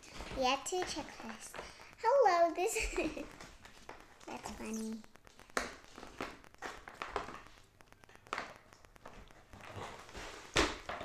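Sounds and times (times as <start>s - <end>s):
small toy pieces rustling and tapping: 0.0s - 11.0s.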